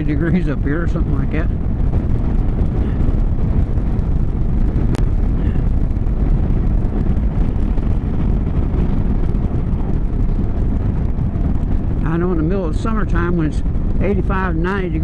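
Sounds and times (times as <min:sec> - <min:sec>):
motorcycle engine cruising: 0:00.0 - 0:15.0
wind buffeting microphone: 0:00.0 - 0:15.0.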